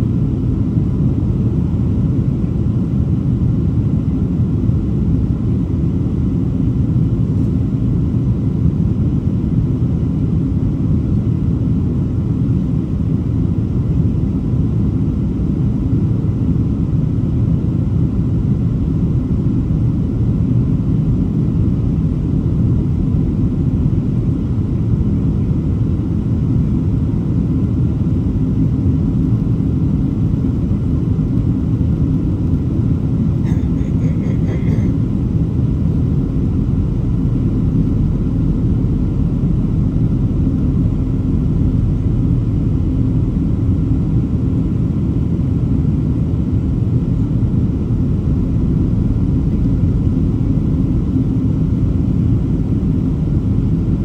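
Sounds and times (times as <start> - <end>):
airliner engines rumbling in cabin: 0.0 - 54.0.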